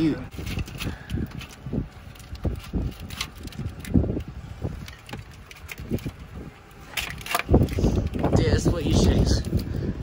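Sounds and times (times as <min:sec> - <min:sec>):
wind buffeting microphone: 0:00.0 - 0:10.0
wiring harness clicks and rustles: 0:00.3 - 0:09.8.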